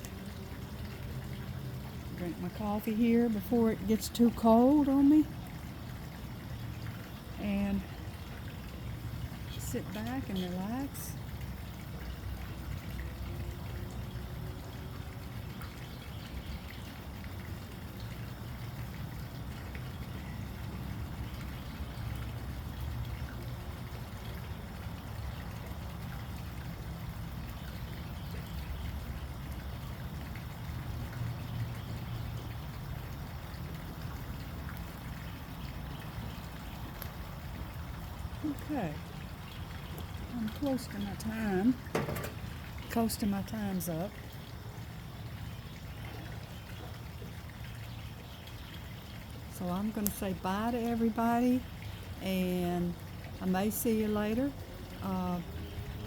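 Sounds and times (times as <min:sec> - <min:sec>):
water trickling: 0:00.0 - 0:56.0.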